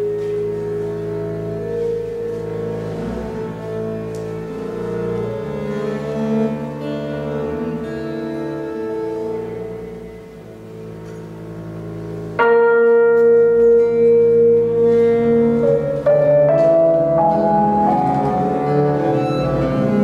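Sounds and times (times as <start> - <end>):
ensemble playing experimental music: 0.0 - 20.0.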